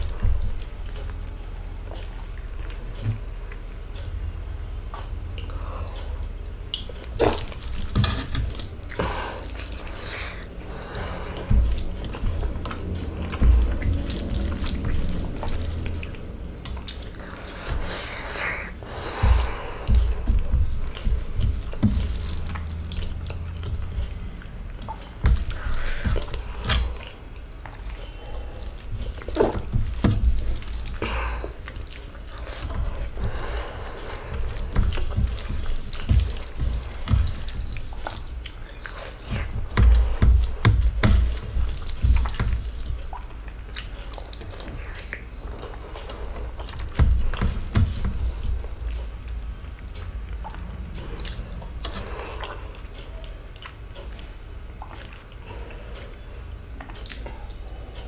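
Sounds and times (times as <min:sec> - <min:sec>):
chewing: 0:00.0 - 0:04.1, 0:04.9 - 0:58.0
wet squishing of rice: 0:00.0 - 0:04.1, 0:04.7 - 0:58.0
steady low hum: 0:00.0 - 0:58.0.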